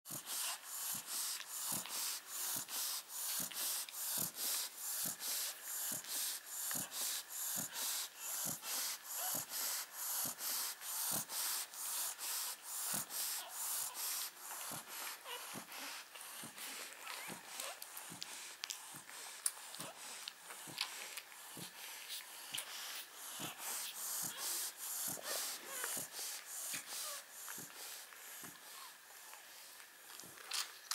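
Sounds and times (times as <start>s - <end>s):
dog breathing fast: 0.1s - 29.8s.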